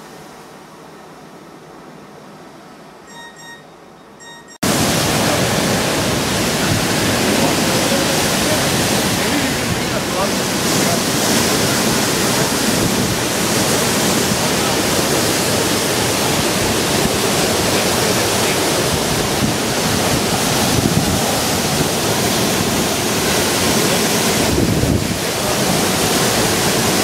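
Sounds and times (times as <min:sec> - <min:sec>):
wind buffeting microphone: 0:04.6 - 0:27.0.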